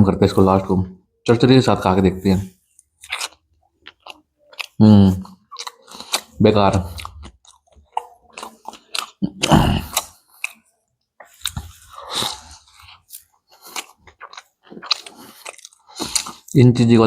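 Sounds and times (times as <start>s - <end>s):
wet chewing and crunching: 2.6s - 16.7s.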